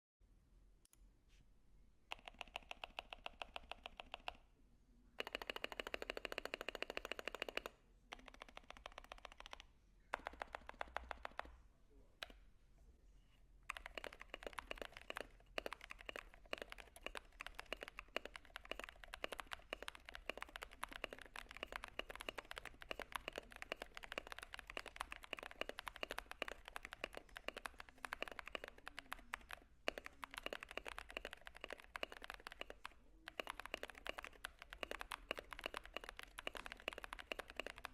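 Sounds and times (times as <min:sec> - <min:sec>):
mechanical keyboard typing: 0:02.1 - 0:04.4, 0:05.2 - 0:11.6, 0:13.7 - 0:37.9.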